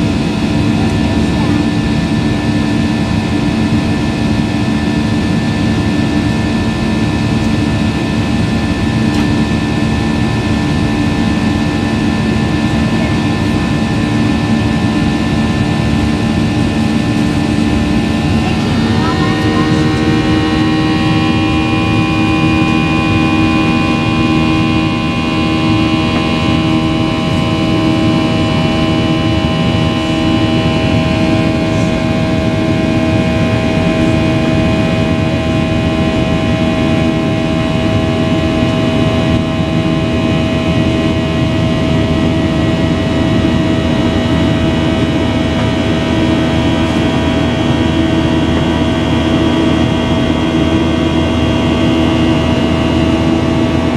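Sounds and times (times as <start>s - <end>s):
jet engines heard from cabin: 0.0s - 53.9s
whining engine tones: 0.0s - 53.9s.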